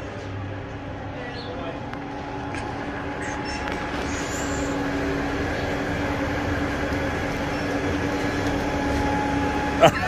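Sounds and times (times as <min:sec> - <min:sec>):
bus engine humming: 0:00.0 - 0:10.0.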